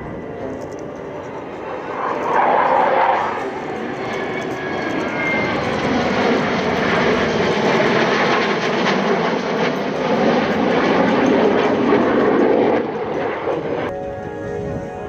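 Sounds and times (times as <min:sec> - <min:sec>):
jet engines roaring past: 0:00.0 - 0:15.0.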